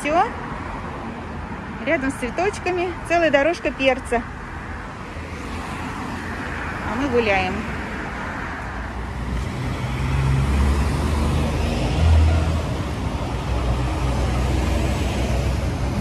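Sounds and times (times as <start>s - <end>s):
passing cars rumble: 0.0s - 16.0s.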